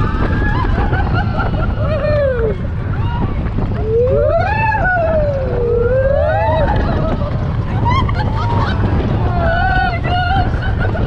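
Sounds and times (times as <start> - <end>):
riders whooping: 0.0 - 11.0
roller coaster rumble: 0.0 - 11.0
rushing wind: 0.0 - 11.0.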